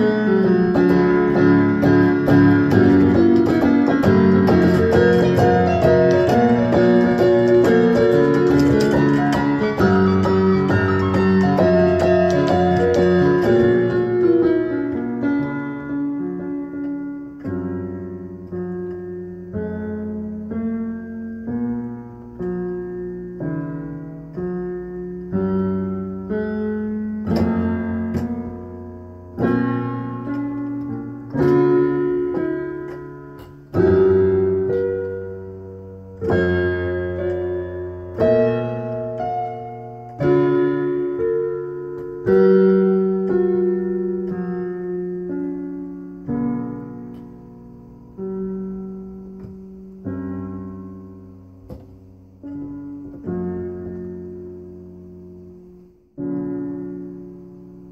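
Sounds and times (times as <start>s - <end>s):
slow solo piano: 0.0s - 57.9s.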